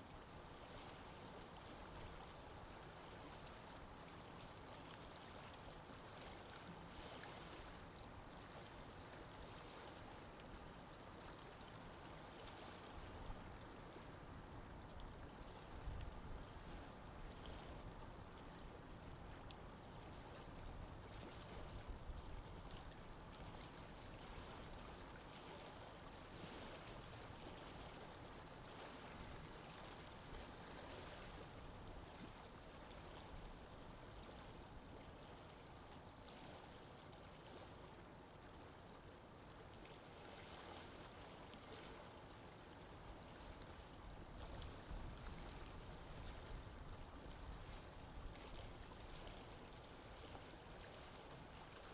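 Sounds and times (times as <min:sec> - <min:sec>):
lake water lapping: 0:00.0 - 0:51.9
small water splashes: 0:00.0 - 0:51.9.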